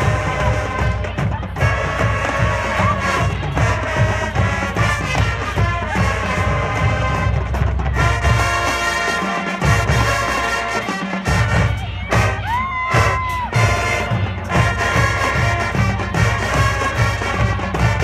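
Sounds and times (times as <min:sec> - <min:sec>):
marching band brass: 0:00.0 - 0:18.0
steady drum beat: 0:00.0 - 0:18.0.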